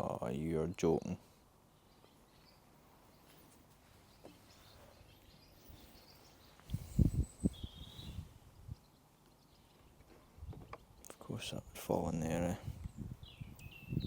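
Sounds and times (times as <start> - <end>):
faint high bird chirps: 1.4 - 12.0, 12.8 - 14.0.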